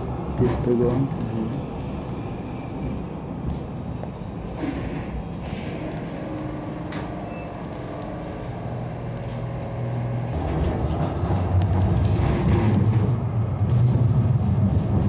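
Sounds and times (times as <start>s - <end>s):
tram running noise: 0.0s - 15.0s.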